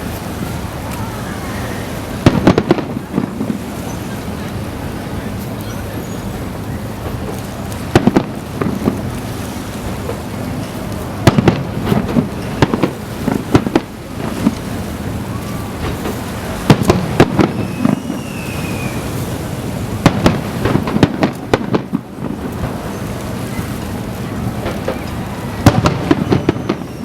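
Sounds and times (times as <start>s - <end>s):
low rumble of echoing reports: 0.0s - 27.0s.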